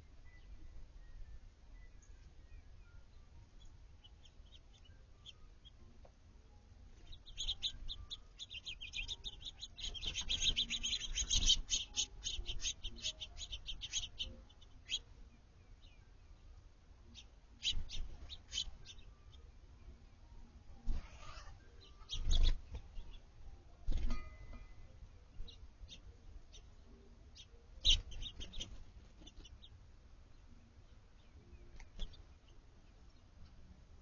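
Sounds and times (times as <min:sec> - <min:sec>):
small songbirds chirping: 0:00.0 - 0:34.0.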